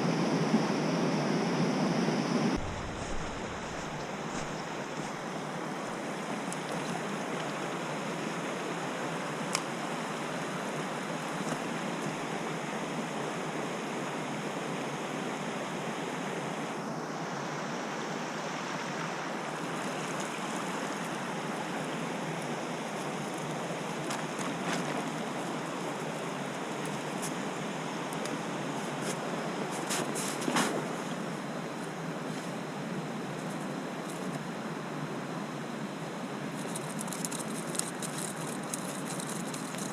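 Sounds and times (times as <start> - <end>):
stream water rushing: 2.5 - 39.9.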